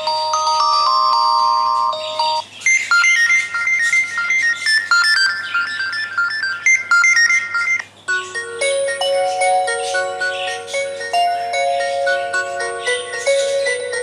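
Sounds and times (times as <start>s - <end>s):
electronic chime ringtone: 0.0s - 14.0s.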